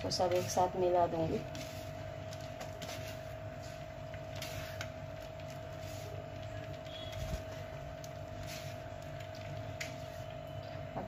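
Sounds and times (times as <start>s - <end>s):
hands mixing food rustling: 0.0s - 10.6s
steady machine hum: 0.0s - 11.0s.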